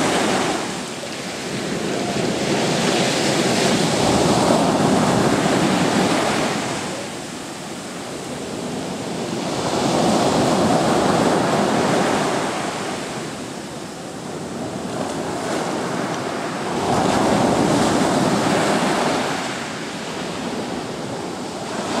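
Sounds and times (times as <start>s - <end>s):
sea waves breaking on beach: 0.0s - 22.0s.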